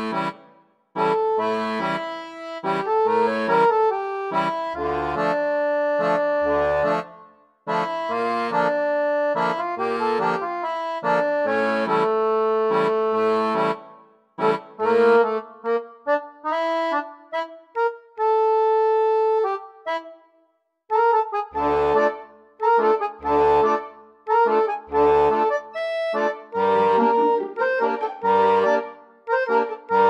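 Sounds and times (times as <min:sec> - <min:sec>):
instrumental background music: 0:00.0 - 0:30.0.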